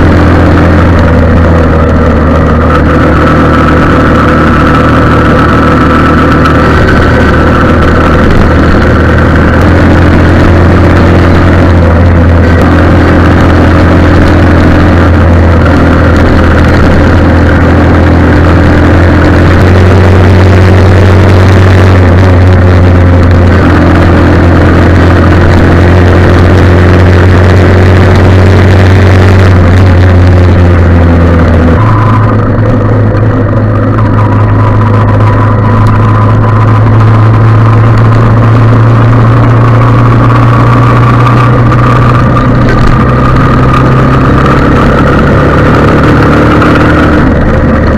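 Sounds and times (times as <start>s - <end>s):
loud engine drone: 0.0s - 47.9s.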